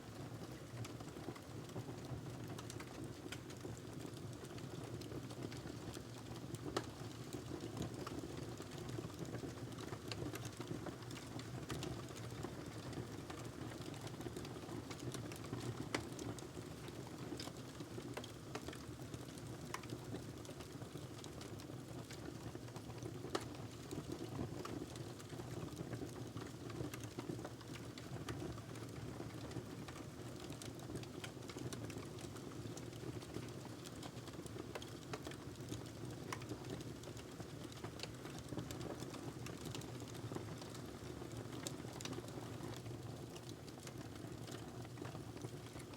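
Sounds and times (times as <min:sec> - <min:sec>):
wood fire crackling: 0:00.1 - 0:45.9.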